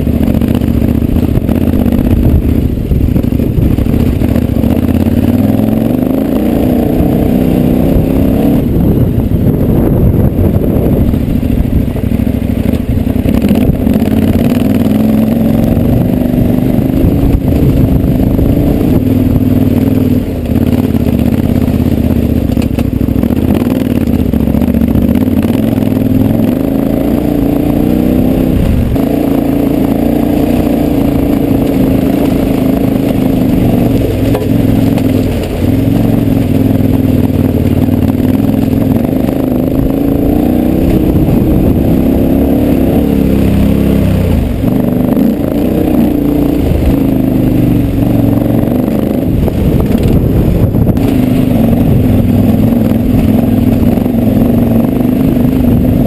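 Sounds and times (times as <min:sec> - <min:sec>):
gravel crunching under tyres: 0:00.0 - 0:56.0
motorcycle engine revving: 0:00.0 - 0:56.0
wind on microphone: 0:00.0 - 0:56.0.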